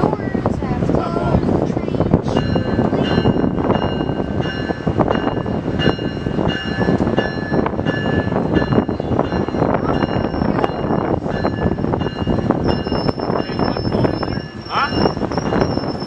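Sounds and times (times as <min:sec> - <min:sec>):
train clanks: 0:00.0 - 0:16.0
train rumbling: 0:00.0 - 0:16.0
high ringing: 0:02.3 - 0:16.0.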